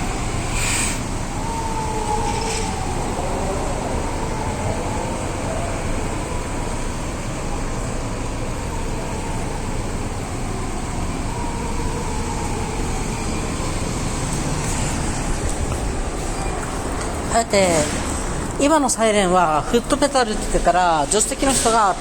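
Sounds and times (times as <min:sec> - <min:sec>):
police siren wailing: 0:00.0 - 0:22.0
road traffic: 0:00.0 - 0:22.0.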